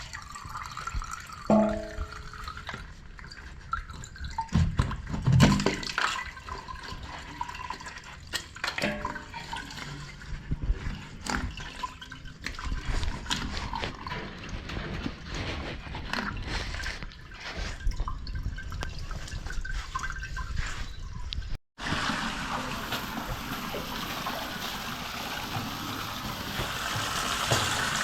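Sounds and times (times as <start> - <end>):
water dripping and splashing: 0.0 - 28.0.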